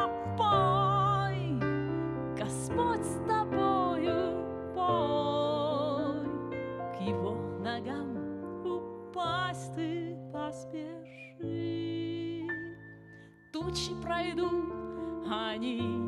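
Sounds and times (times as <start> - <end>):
woman singing wordless notes: 0.0 - 1.7, 2.4 - 12.8, 13.6 - 16.0.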